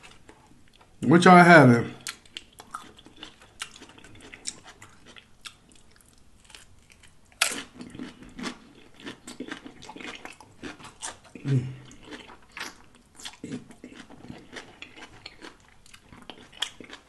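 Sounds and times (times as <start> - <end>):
chewing crunchy chips: 2.0 - 17.0.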